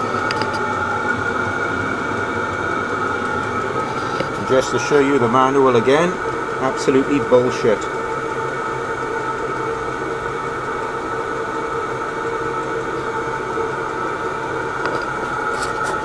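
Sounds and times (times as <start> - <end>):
constant whine: 0.0 - 16.0
heater fan whirring: 0.0 - 16.0.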